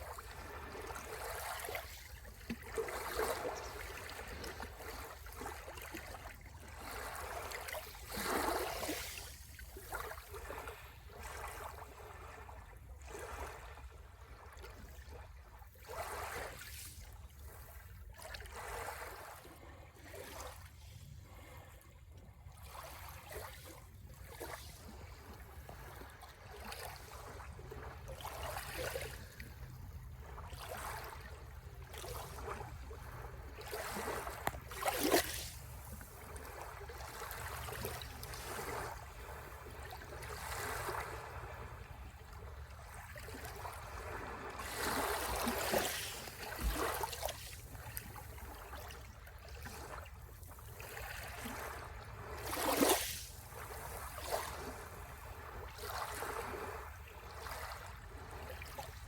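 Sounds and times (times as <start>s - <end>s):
small waves washing onto shore: 0.0s - 14.5s, 22.6s - 59.0s.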